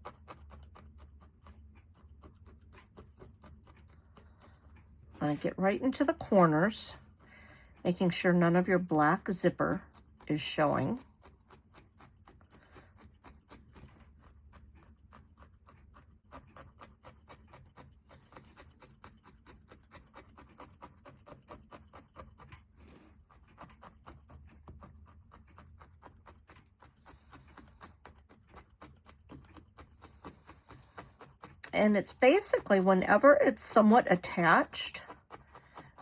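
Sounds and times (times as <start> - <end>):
felting needle poking wool: 0.0 - 36.0.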